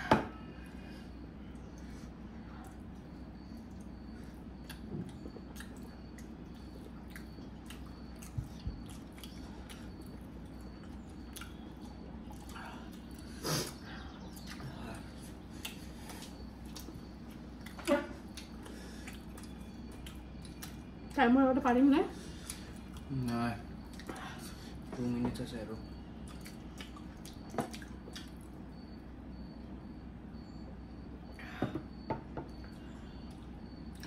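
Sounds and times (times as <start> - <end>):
people chewing food: 0.0 - 34.0
steady low hum: 0.0 - 34.0.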